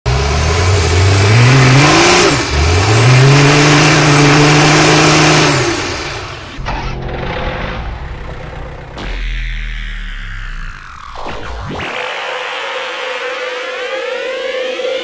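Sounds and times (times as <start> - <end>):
tractor engine revving: 0.1 - 15.0.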